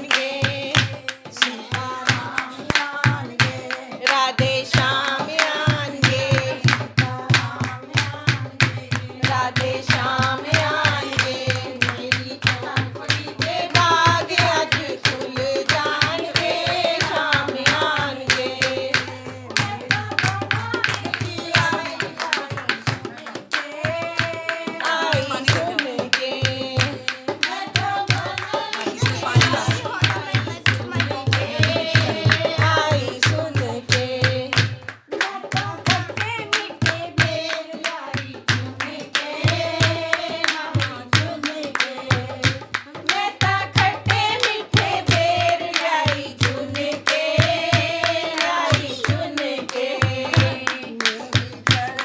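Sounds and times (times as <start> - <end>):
hand percussion beat: 0.0 - 52.0
woman singing devotional song: 0.0 - 52.0.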